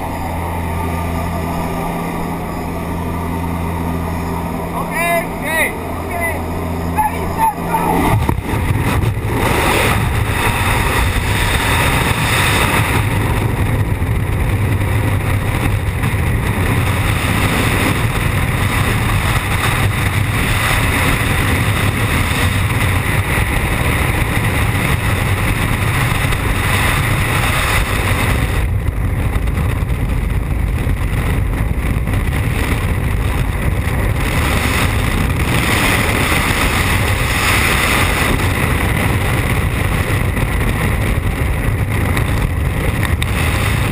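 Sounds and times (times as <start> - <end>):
freefall wind buffeting microphone: 0.0 - 43.9.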